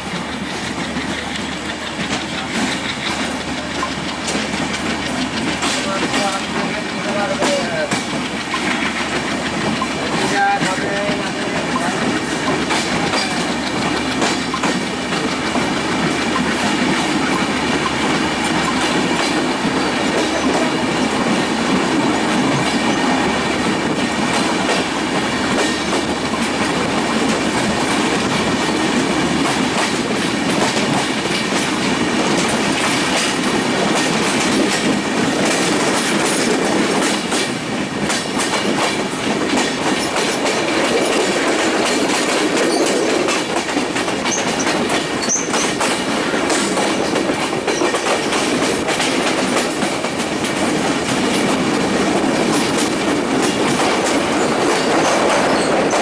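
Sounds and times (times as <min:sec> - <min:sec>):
train wheels rumbling on rails: 0:00.0 - 0:56.0
wheels clickety-clack over joints: 0:00.0 - 0:56.0.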